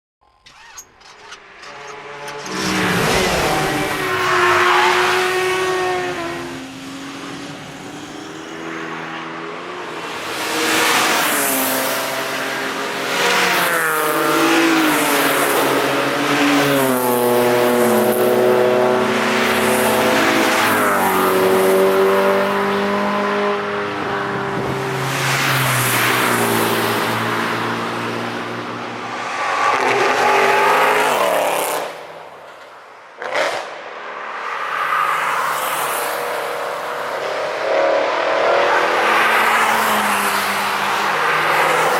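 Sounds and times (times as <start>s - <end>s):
cars passing at speed: 1.2s - 41.9s.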